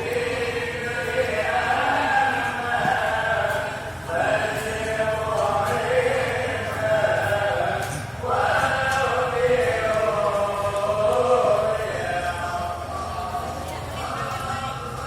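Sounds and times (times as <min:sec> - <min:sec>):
voices chanting in long notes: 0:00.0 - 0:15.0.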